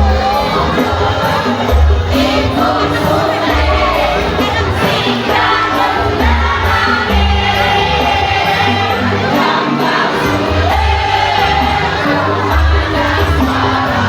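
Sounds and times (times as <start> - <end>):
amplified music with heavy bass: 0.0 - 14.0
choir singing: 0.0 - 14.0
crowd noise: 0.0 - 14.0.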